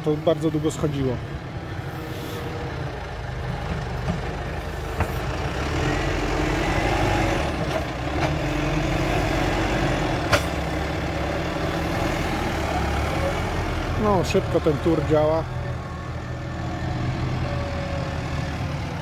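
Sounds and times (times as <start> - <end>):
tractor diesel engine working: 0.0 - 19.0.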